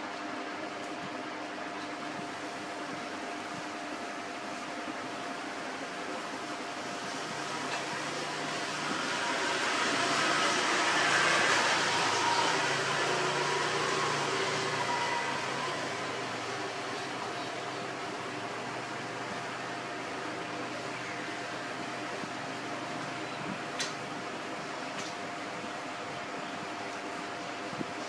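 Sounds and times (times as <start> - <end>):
machine-like hum and rush: 0.0 - 28.0.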